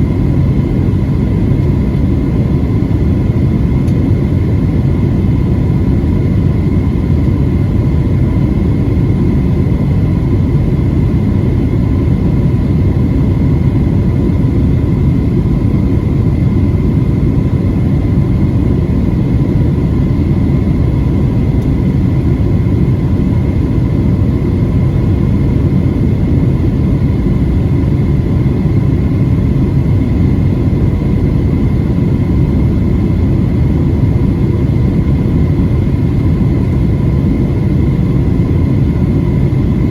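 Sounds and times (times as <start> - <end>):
airliner cabin drone: 0.0 - 39.9
faint steady whine: 0.0 - 39.9.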